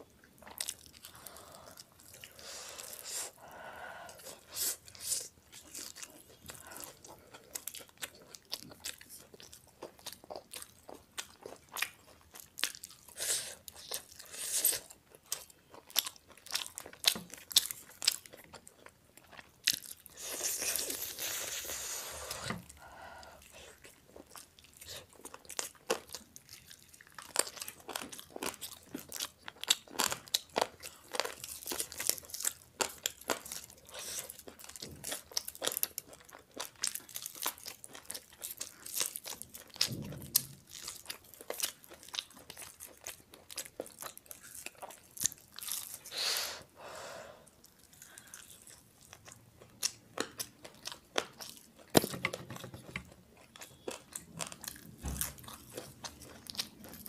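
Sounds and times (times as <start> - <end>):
chewing and crunching: 0.0 - 46.2, 47.5 - 57.0.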